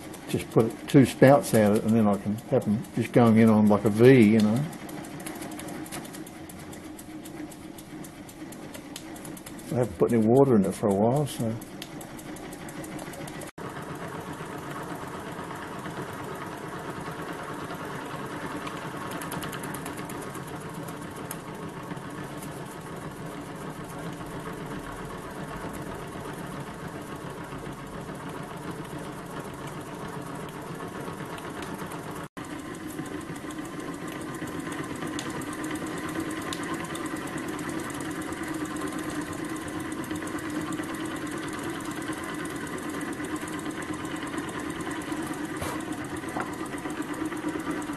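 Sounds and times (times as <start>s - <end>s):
model steam engine ticking: 0.0s - 47.9s.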